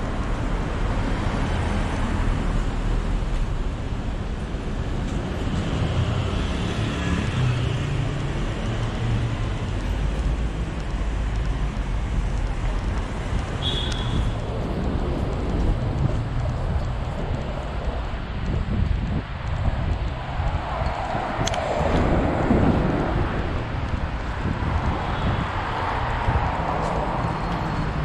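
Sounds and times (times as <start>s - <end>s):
city traffic: 0.0s - 28.0s.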